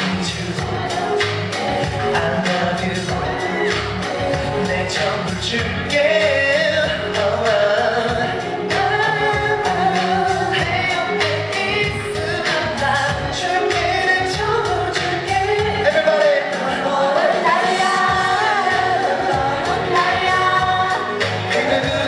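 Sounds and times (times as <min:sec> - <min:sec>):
man singing into a microphone: 0:00.0 - 0:22.0
pop backing music: 0:00.0 - 0:22.0.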